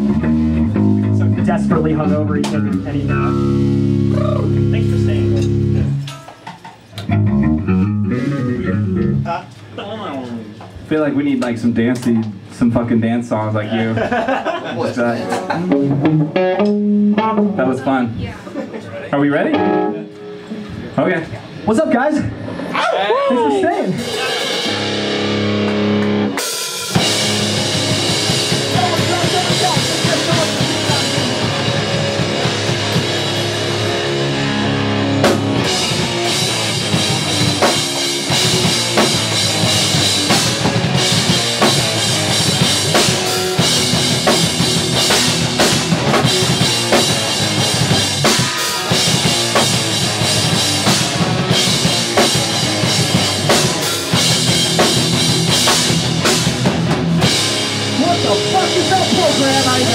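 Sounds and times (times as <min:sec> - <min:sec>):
pop punk band playing live: 0:00.0 - 0:09.8, 0:14.0 - 0:18.7, 0:19.4 - 0:21.6, 0:23.8 - 0:59.9.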